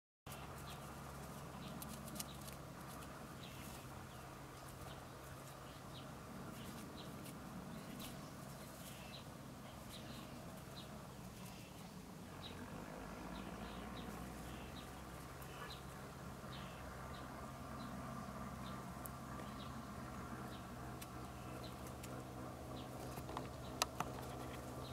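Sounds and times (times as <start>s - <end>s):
low steady hum: 0.3s - 24.9s.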